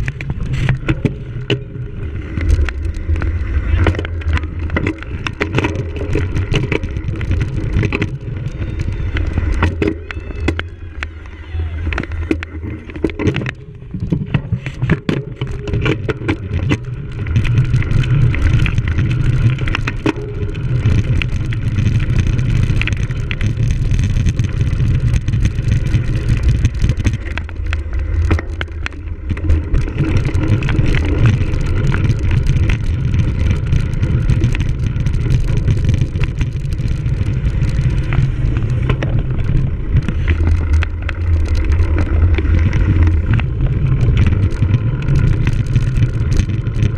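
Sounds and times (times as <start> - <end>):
bike clattering over bumps: 0.0 - 46.9
rumble and wind buffeting: 0.0 - 46.9.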